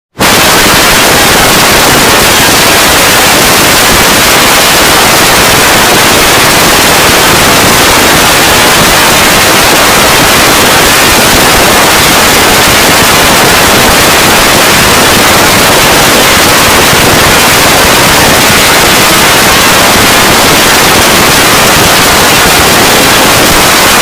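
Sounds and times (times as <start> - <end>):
distorted static noise: 0.0 - 24.0.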